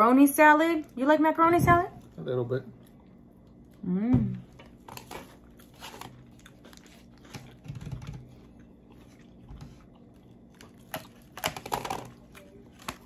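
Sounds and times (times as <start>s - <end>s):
people chewing: 2.0s - 13.0s.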